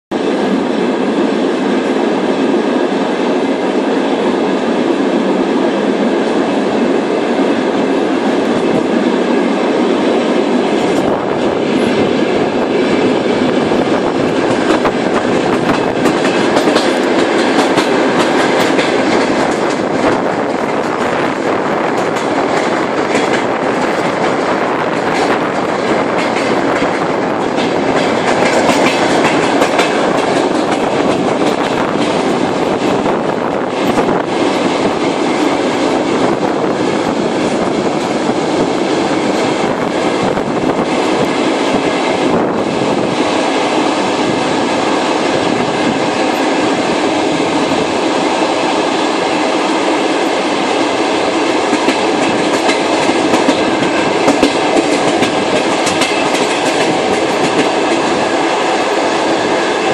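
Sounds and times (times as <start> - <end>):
train wheels rumbling on rails: 0.1 - 59.9
rail joint clicks: 10.5 - 59.9.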